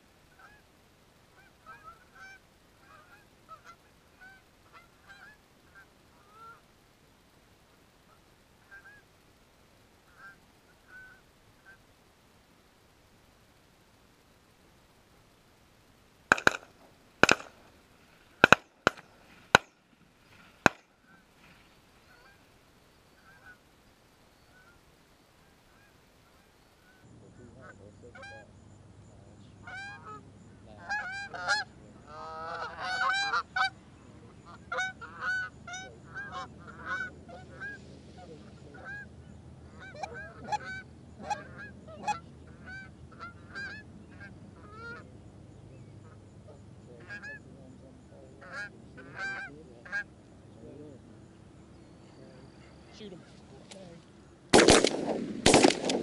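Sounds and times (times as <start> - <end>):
geese honking: 0.0 - 0.7, 1.3 - 6.7, 8.0 - 9.1, 10.0 - 11.8, 16.3 - 23.7, 24.4 - 28.6, 29.4 - 45.1, 45.7 - 56.0
low steady hum: 0.0 - 56.0.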